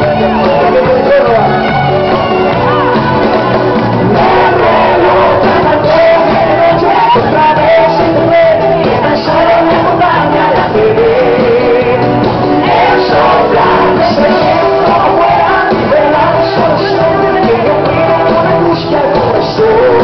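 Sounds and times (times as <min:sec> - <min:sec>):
live band with singer: 0:00.0 - 0:20.0
crowd shouting: 0:00.2 - 0:11.2, 0:12.4 - 0:17.4.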